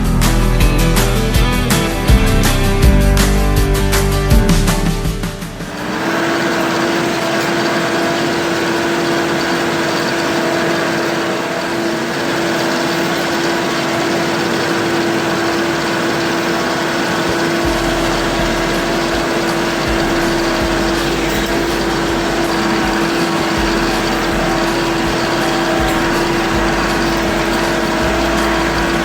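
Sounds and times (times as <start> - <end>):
engine running steadily: 0.0 - 29.0
steady whine: 0.0 - 29.0.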